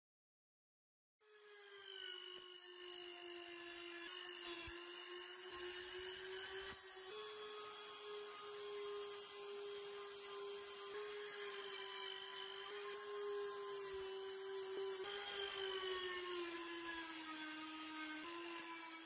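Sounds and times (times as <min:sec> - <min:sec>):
electric power tool running: 0:01.2 - 0:19.0.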